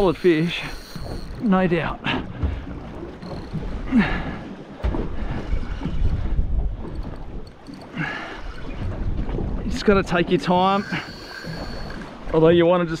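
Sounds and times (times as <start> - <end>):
water against a boat: 0.0 - 13.0
wind buffeting microphone: 0.0 - 13.0.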